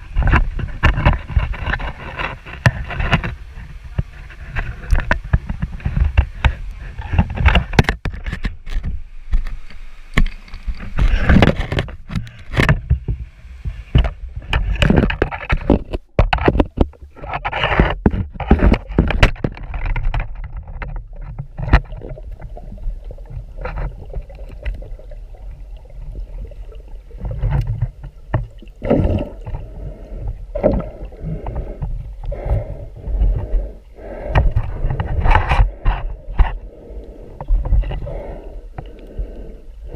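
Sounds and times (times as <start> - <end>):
water sloshing and gurgling: 0.0 - 39.9
handling knocks and scrapes: 0.1 - 24.9, 27.1 - 39.2.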